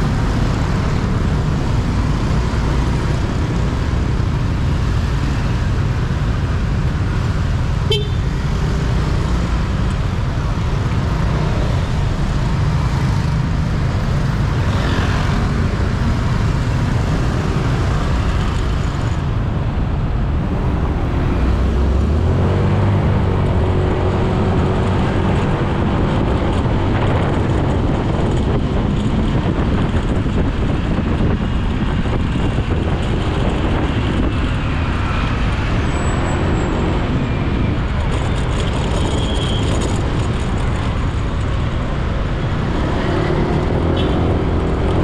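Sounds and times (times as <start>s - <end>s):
road noise: 0.0s - 45.0s
traffic passing close by: 0.0s - 45.0s
wind noise: 0.0s - 45.0s.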